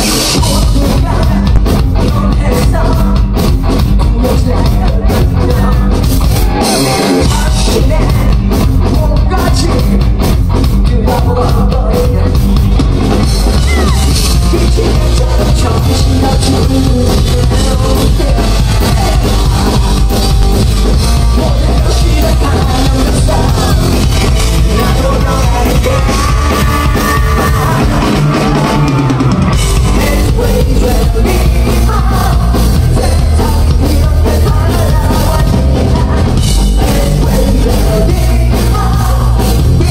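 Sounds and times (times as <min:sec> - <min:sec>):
person singing into a microphone: 0:00.0 - 0:03.4, 0:04.0 - 0:10.2, 0:10.8 - 0:12.5, 0:13.6 - 0:20.2, 0:20.9 - 0:39.9
rock band playing: 0:00.0 - 0:39.9.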